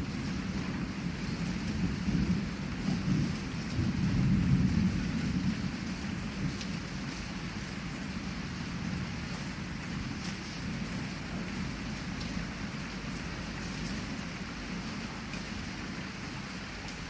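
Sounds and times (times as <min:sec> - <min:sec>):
heavy rain falling: 0:00.0 - 0:17.0
rolling thunder rumble: 0:00.0 - 0:17.0
raindrop ticks: 0:00.2 - 0:07.4, 0:08.9 - 0:15.9, 0:16.8 - 0:17.0.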